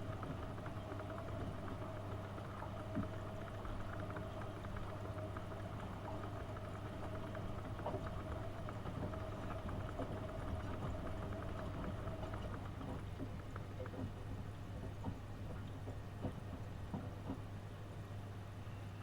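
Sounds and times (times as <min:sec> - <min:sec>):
water sloshing in drum: 0:00.0 - 0:18.0
washing machine motor hum: 0:00.0 - 0:18.4.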